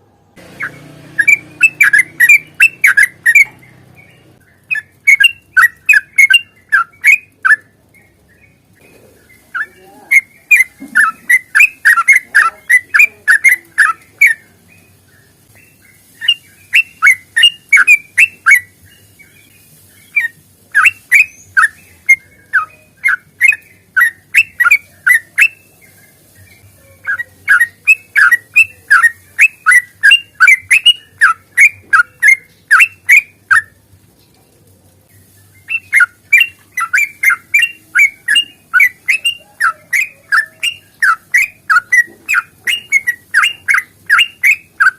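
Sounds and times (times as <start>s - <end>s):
bird singing chirping notes: 0.2s - 33.8s, 35.2s - 44.9s.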